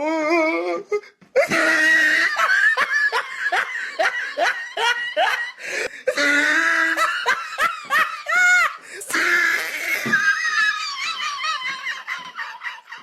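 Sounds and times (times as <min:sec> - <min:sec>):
person laughing hard: 0:01.4 - 0:13.0.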